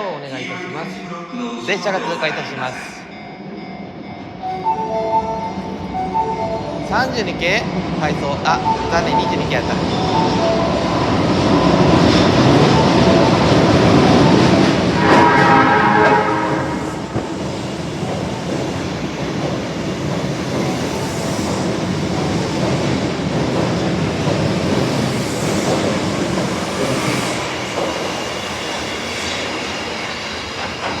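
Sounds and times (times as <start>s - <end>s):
subway train rumble and wheel clatter: 0.0s - 31.0s.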